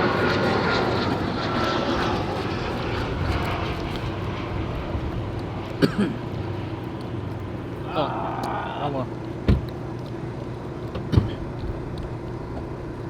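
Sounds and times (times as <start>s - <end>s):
airplane engines droning overhead: 0.0s - 13.0s.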